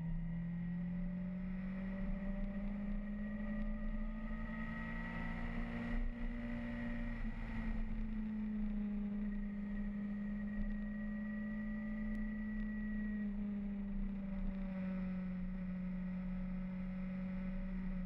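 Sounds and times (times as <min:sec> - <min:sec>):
motorcycle engine drone: 0:00.0 - 0:18.0.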